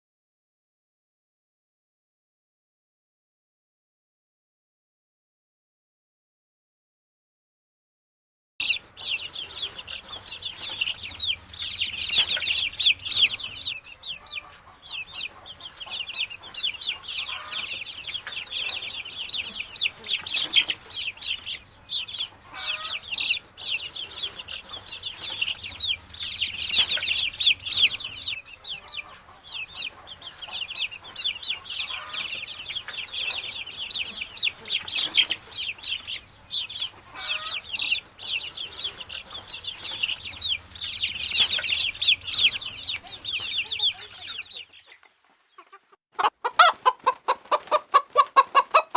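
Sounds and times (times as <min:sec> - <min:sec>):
chickens clucking: 0:08.6 - 0:48.9
chicks cheeping: 0:08.6 - 0:48.9.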